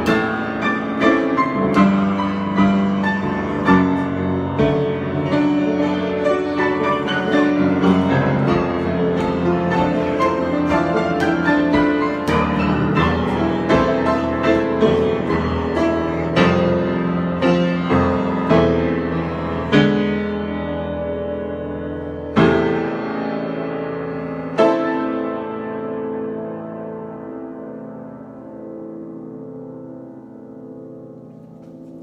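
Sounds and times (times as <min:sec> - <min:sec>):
piano improvisation: 0:00.0 - 0:32.0.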